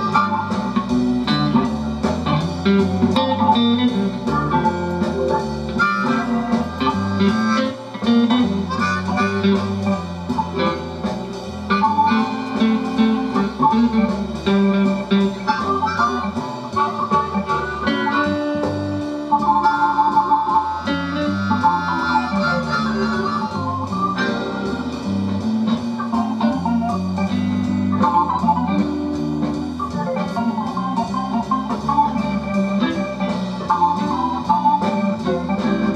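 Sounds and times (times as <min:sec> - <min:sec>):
blues guitar music on loudspeaker: 0:00.0 - 0:35.9.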